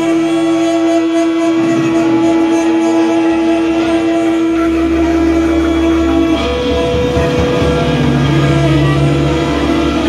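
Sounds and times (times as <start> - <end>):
saxophones holding loud note: 0.0 - 10.0.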